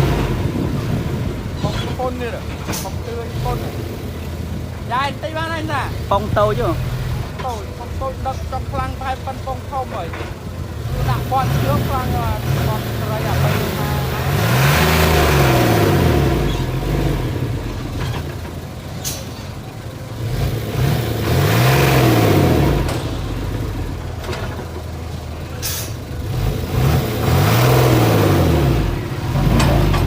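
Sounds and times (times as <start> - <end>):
diesel engine revving: 0.0 - 30.0.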